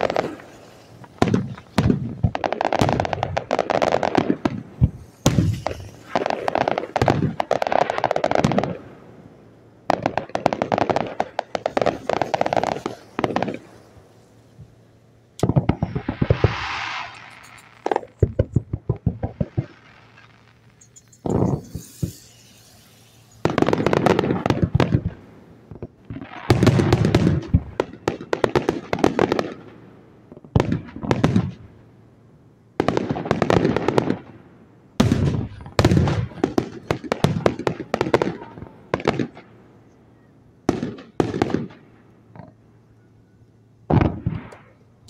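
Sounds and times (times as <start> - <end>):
fireworks banging and crackling: 0.0 - 31.8, 32.7 - 45.0.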